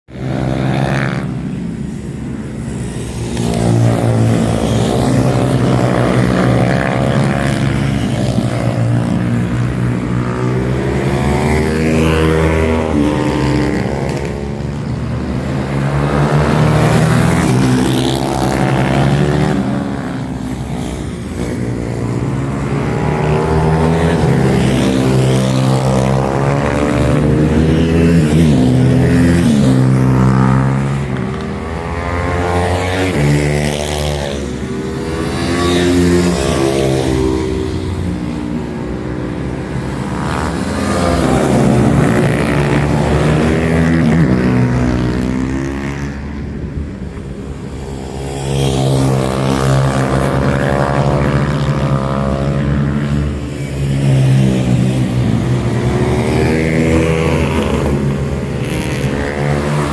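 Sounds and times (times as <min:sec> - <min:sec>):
mini bike engines revving: 0:00.1 - 0:59.9.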